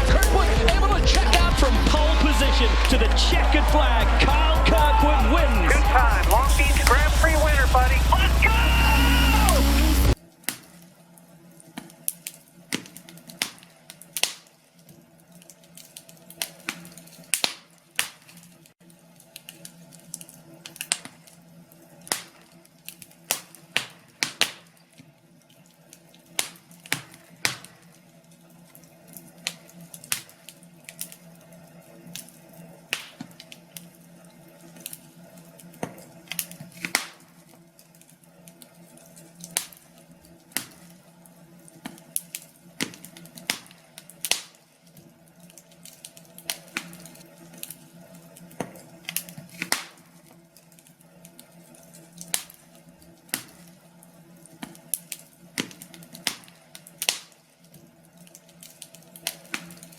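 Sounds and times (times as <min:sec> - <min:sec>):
wood fire crackling and popping: 0:00.0 - 0:10.7, 0:11.8 - 0:21.4, 0:22.0 - 0:24.9, 0:25.9 - 0:28.0, 0:28.7 - 0:31.2, 0:32.0 - 0:59.9.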